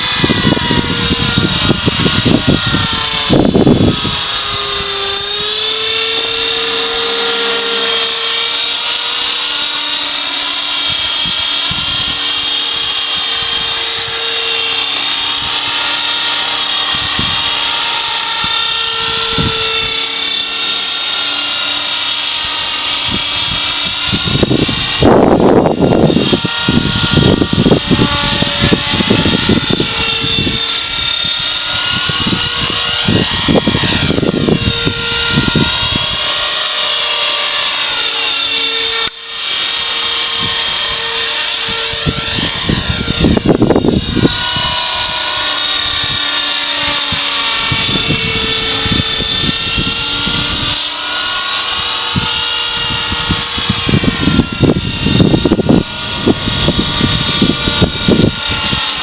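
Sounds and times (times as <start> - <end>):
wind gusts on microphone: 0.0 - 9.5, 10.7 - 20.2, 22.4 - 59.0
model helicopter whine: 0.0 - 59.0.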